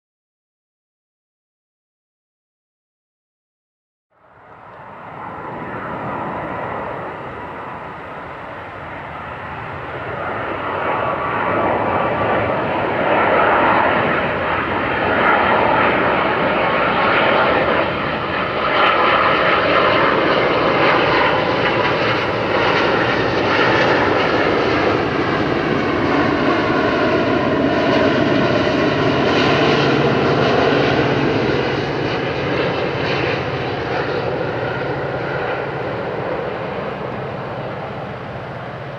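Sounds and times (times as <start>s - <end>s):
jet engines of approaching airliner: 4.1s - 38.9s.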